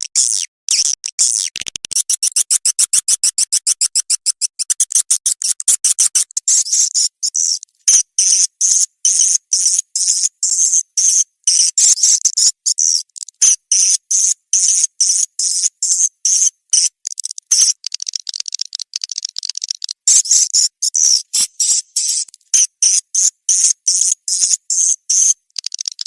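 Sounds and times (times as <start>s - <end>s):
swiftlet chirping twitters: 2.0s - 26.0s.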